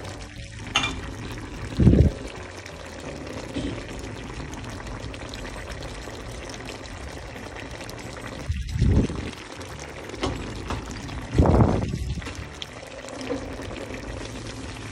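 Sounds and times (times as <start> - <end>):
sauce bubbling in a pot: 0.0 - 14.9.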